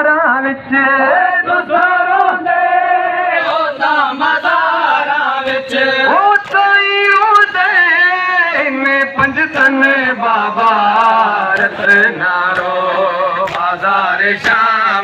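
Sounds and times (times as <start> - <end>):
man singing a lament into a microphone: 0.0 - 15.0.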